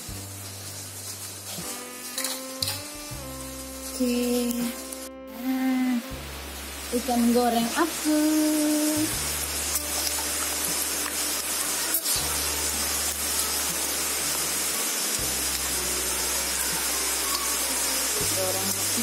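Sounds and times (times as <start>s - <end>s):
fish deep-frying in oil: 0.0s - 5.1s, 6.1s - 19.0s
background music with bass: 0.0s - 19.0s.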